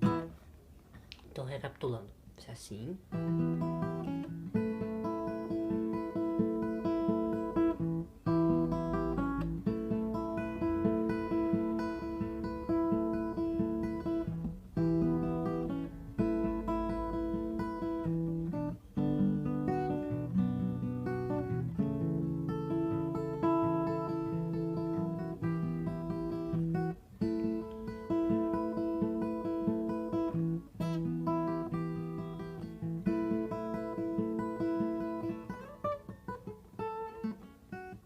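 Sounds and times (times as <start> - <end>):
acoustic guitar strumming chords: 0.0 - 0.4, 3.0 - 38.0.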